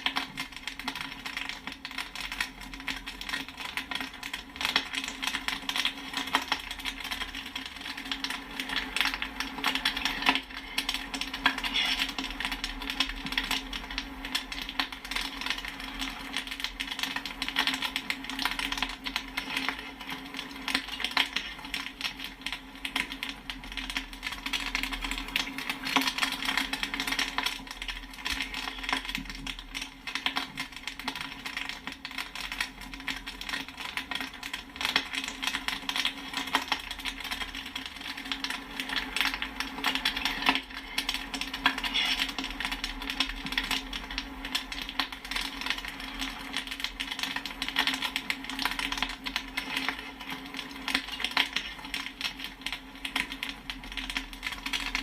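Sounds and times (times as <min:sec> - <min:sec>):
popcorn popping: 0:00.0 - 0:55.0.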